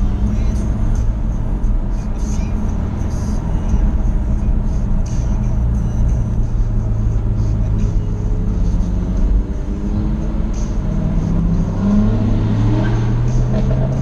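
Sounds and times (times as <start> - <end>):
car engine under load: 0.0 - 14.0
tyre and road noise: 0.0 - 14.0.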